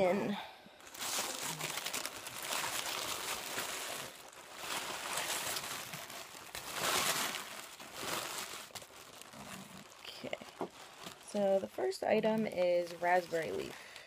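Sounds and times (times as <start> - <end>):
tissue paper rustling and crinkling: 0.8 - 14.0.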